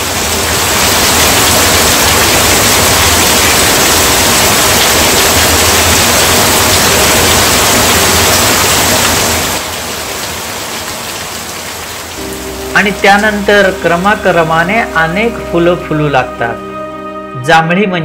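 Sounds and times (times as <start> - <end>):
heavy rain pouring: 0.0 - 16.8.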